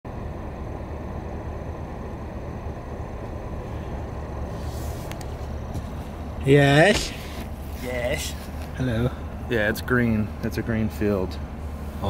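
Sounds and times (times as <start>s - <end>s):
pickup truck engine idling: 0.1s - 12.0s.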